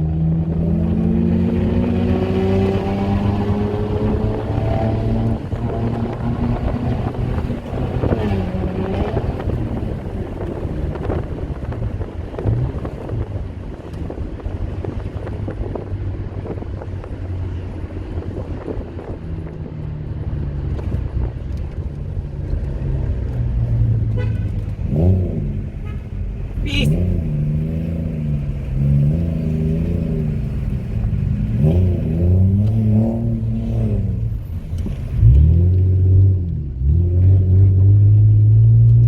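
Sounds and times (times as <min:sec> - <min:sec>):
car engine droning: 0:00.0 - 0:39.0
road and wind noise: 0:00.0 - 0:39.0.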